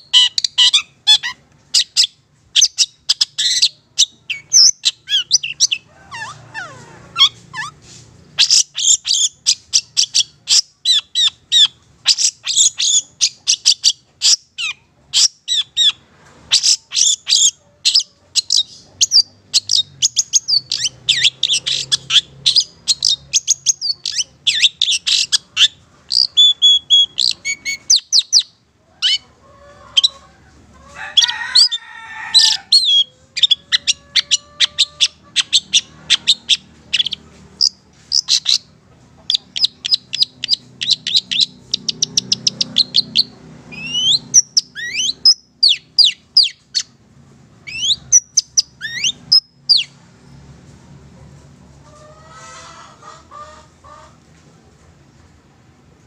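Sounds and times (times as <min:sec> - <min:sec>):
bird singing chattering song: 0:00.0 - 0:29.3, 0:32.4 - 0:47.0, 0:47.7 - 0:50.0.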